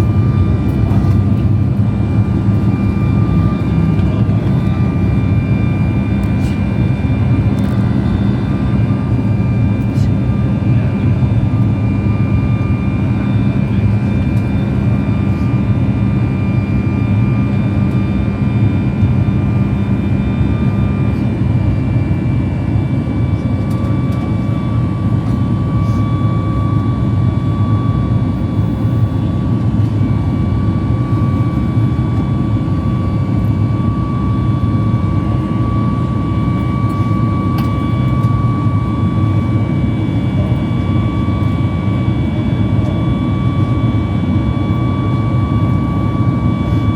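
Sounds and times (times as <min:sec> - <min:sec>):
jet engine cabin rumble: 0:00.0 - 0:46.9
thin engine whine: 0:00.0 - 0:46.9.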